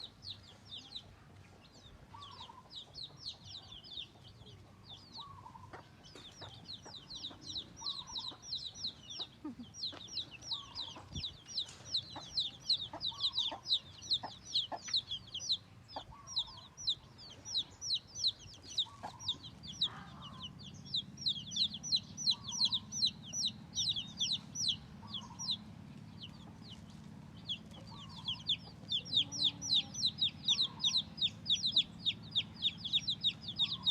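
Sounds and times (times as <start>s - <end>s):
chicks peeping: 0.0s - 33.9s
hen clucking: 0.0s - 33.9s.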